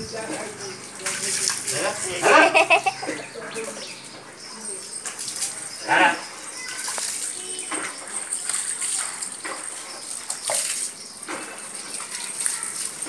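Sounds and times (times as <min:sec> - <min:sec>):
water splashing in plastic basin: 0:00.0 - 0:13.0.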